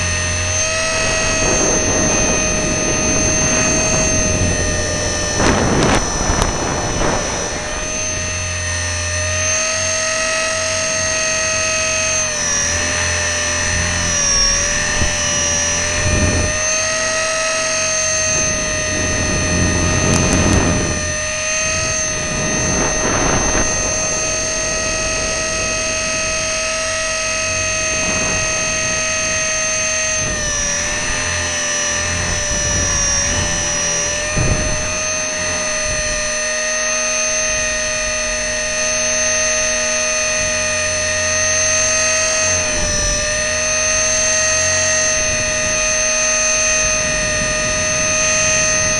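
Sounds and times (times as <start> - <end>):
rc helicopter motor whine: 0.0 - 48.9
wind buffeting microphone: 0.0 - 48.9.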